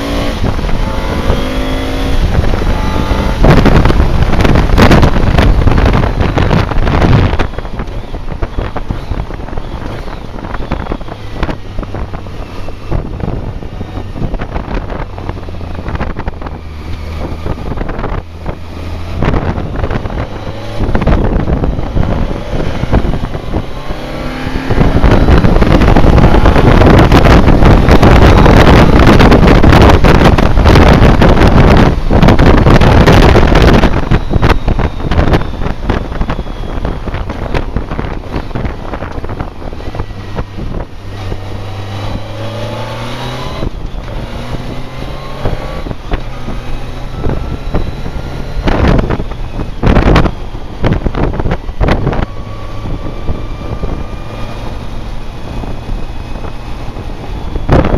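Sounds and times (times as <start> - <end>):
motorcycle engine: 0.0 - 57.9
wind buffeting microphone: 0.0 - 57.9.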